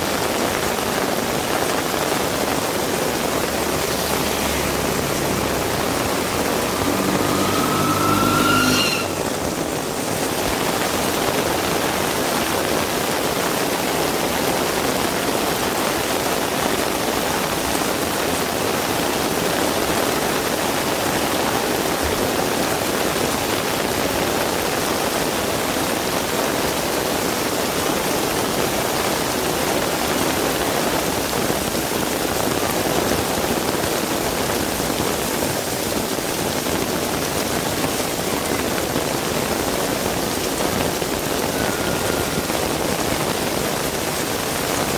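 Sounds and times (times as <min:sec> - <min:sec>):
heavy rain falling: 0:00.0 - 0:08.5, 0:09.1 - 0:44.9.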